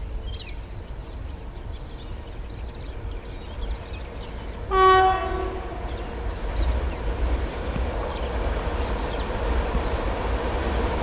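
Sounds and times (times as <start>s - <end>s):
locomotive humming tone: 0.0s - 11.0s
train rumble: 0.0s - 11.0s.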